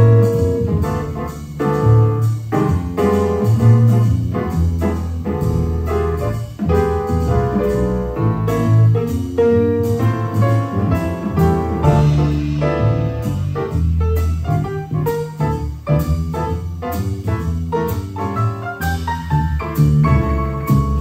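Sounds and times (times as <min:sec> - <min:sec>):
acoustic piano: 0:00.0 - 0:21.0
drum kit cymbals: 0:00.0 - 0:21.0
plucked upright bass: 0:00.0 - 0:21.0.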